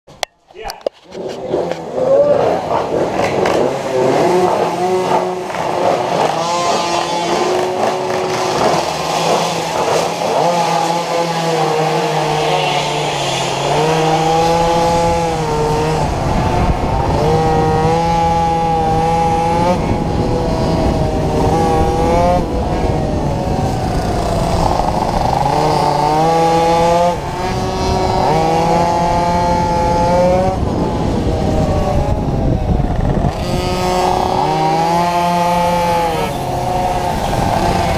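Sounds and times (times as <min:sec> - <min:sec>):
motorcycle engine revving: 0:01.0 - 0:37.9.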